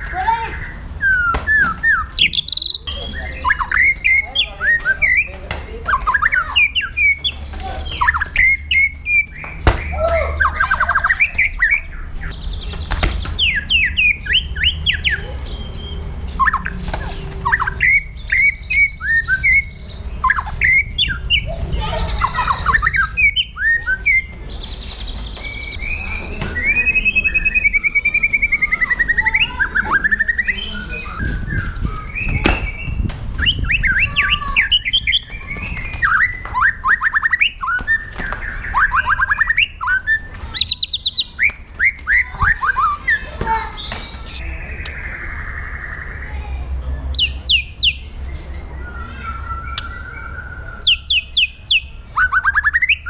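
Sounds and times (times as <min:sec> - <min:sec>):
bird singing whistles and chirps: 0:01.0 - 0:21.6, 0:22.5 - 0:46.5, 0:47.1 - 0:53.0.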